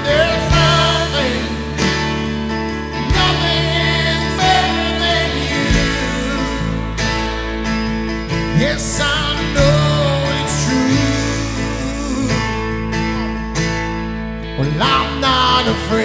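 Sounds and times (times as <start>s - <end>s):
person singing: 0.0s - 7.4s, 8.5s - 12.9s, 14.6s - 16.0s
acoustic guitar strumming: 0.0s - 16.0s
worship band playing: 0.0s - 16.0s.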